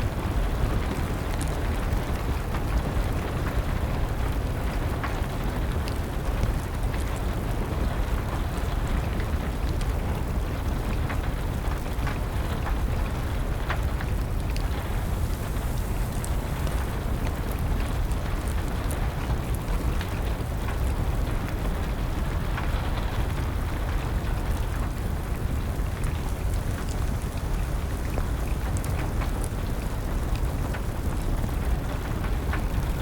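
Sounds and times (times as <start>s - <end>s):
steady rain: 0.0s - 33.0s
wood fire crackling and popping: 0.0s - 33.0s.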